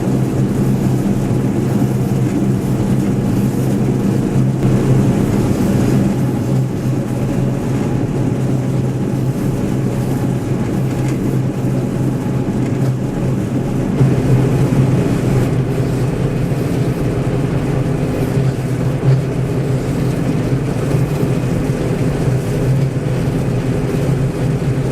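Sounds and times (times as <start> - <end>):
combine harvester engine: 0.0 - 24.9
threshing machinery noise: 0.0 - 24.9.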